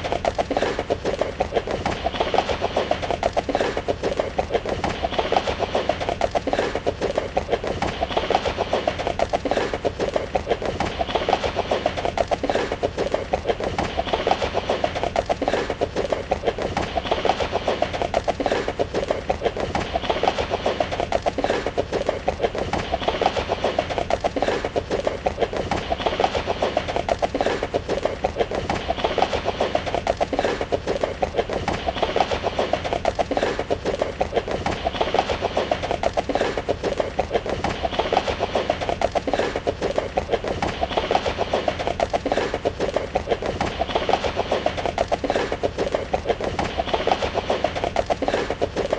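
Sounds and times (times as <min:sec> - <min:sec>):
horse galloping hoofbeats: 0:00.0 - 0:48.9.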